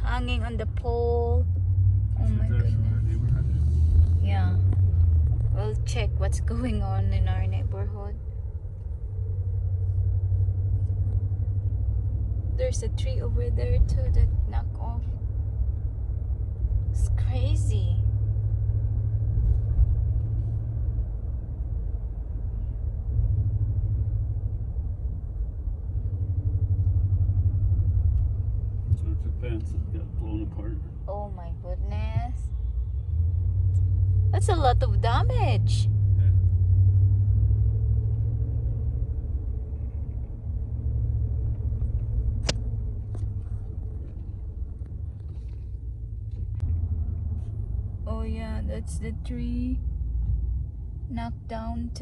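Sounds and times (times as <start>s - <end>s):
car road and engine noise: 0.0s - 52.0s.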